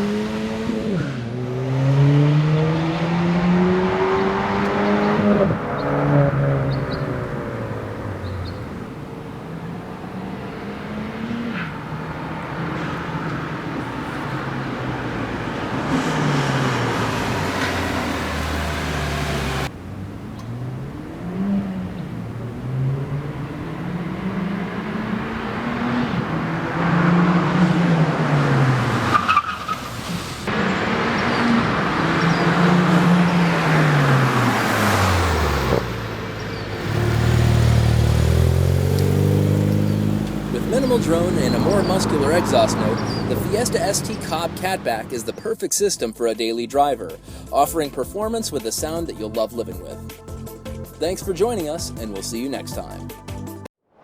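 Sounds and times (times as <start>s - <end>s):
car engine revving and accelerating: 0.0s - 45.4s.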